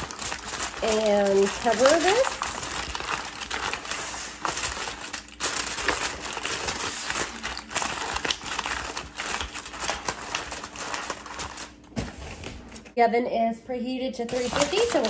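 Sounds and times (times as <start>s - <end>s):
aluminum foil crinkling: 0.0s - 11.9s, 14.3s - 15.0s.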